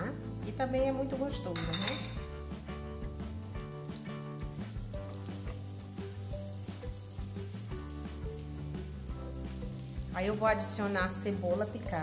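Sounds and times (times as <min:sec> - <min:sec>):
background music with held notes: 0:00.0 - 0:12.0
butter sizzling in a frying pan: 0:02.2 - 0:12.0.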